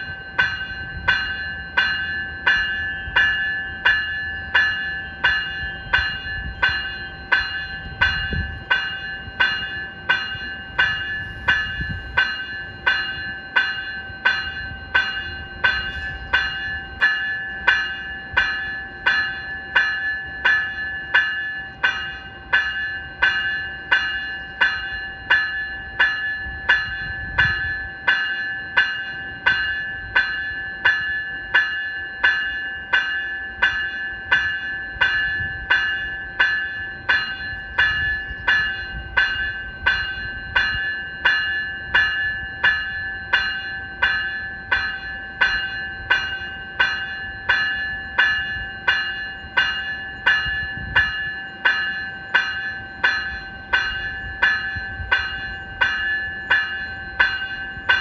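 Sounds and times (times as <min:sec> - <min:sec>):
electronic bell dinging: 0:00.0 - 0:58.0.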